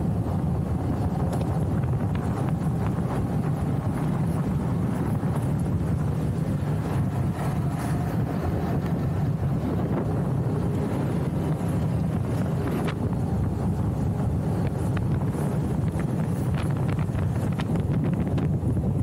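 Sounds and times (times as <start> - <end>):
wheels rolling on asphalt: 0.0 - 19.0
wind rushing over microphone: 0.0 - 19.0.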